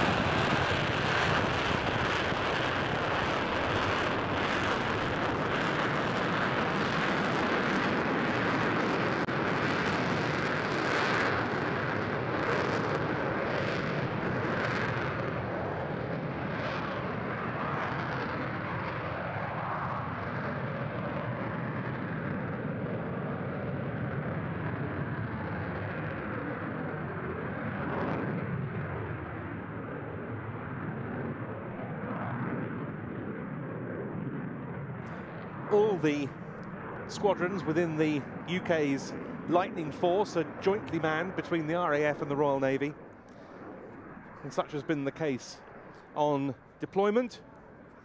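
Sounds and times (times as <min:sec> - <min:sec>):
jet engine roar: 0:00.0 - 0:48.0.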